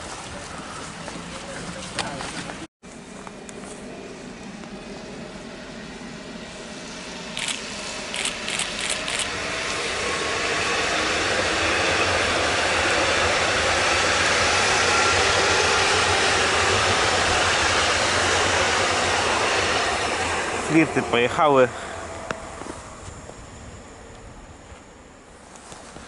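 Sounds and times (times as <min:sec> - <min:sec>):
train wheels rushing past: 0:03.8 - 0:26.0.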